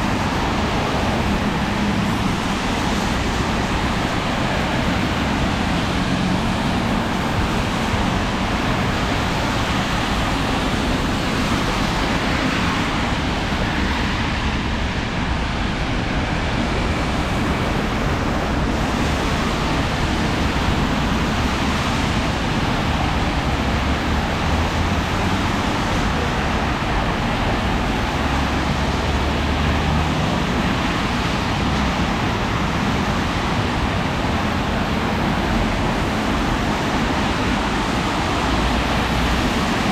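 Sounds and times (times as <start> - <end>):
city traffic noise: 0.0 - 39.9
rain: 0.0 - 39.9
tyres hissing on wet road: 0.0 - 39.9.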